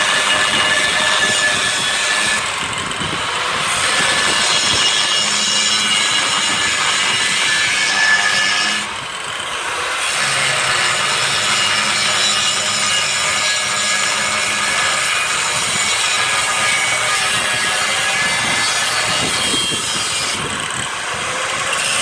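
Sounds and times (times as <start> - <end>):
cut-off wheel screeching on steel: 0.0 - 22.0.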